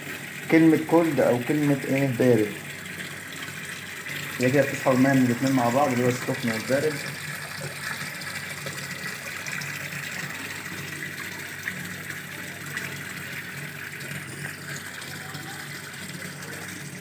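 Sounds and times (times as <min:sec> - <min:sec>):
water jetting into washing machine: 0:00.0 - 0:17.0.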